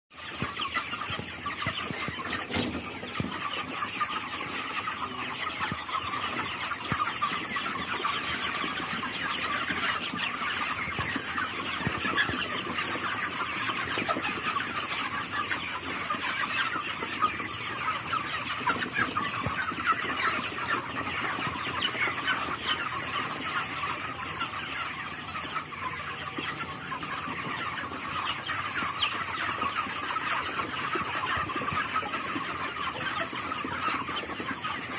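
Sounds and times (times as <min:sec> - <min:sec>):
chickens cheeping and clucking: 0:00.1 - 0:34.9.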